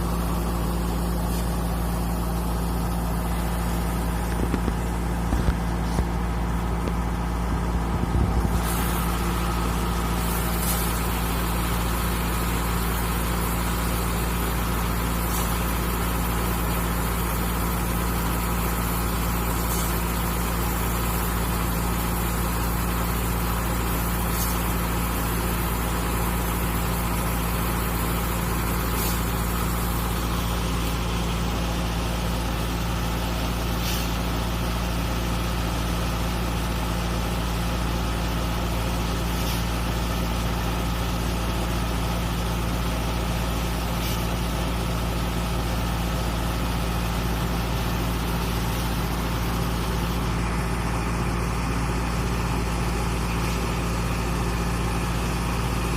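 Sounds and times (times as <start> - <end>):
combine harvester engine drone: 0.0 - 55.9.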